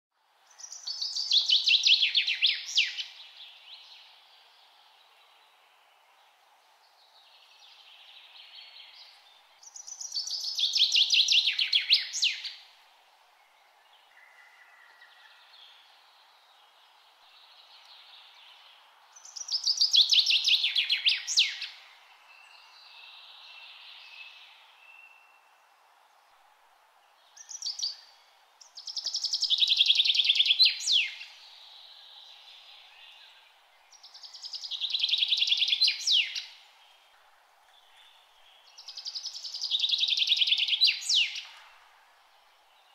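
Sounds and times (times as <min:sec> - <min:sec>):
faint steady hiss: 0:00.2 - 0:42.9
other birds singing softly: 0:00.2 - 0:42.9.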